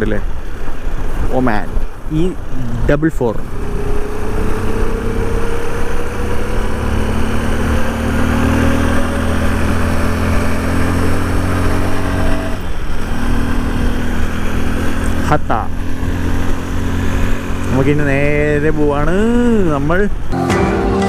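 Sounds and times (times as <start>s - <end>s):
motorcycle engine running: 0.3s - 20.4s.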